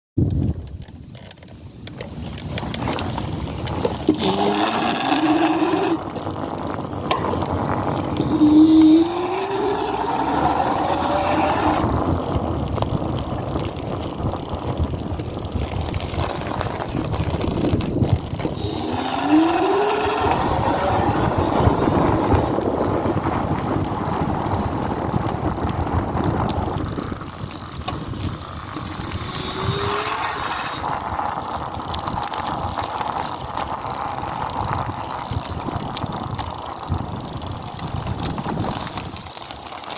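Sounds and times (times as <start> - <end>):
electric motor whining: 3.8 - 39.9.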